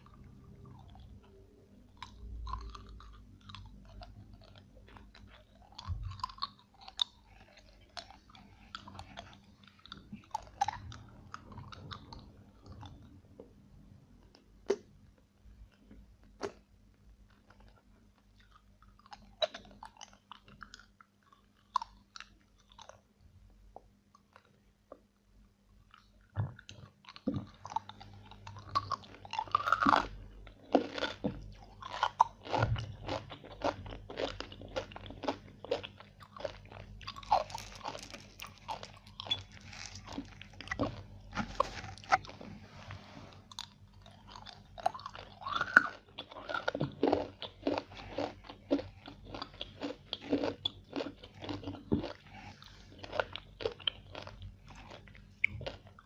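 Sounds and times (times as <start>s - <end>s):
person chewing crunchy food: 0.0s - 23.1s, 25.8s - 56.0s.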